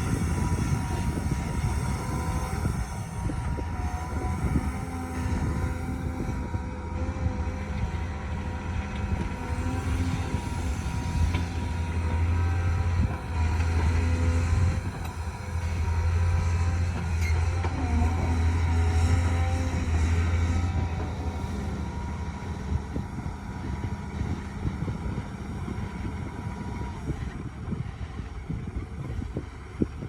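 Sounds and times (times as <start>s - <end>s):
construction machine diesel engine: 0.0s - 30.0s.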